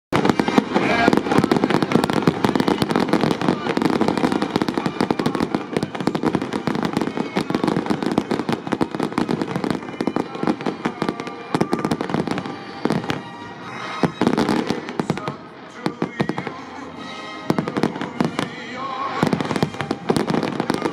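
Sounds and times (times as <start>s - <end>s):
fireworks bangs and crackling: 0.1s - 20.9s.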